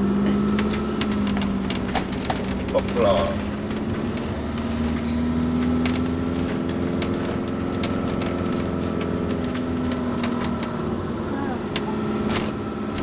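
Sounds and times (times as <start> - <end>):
motorhome engine running: 0.0 - 13.0.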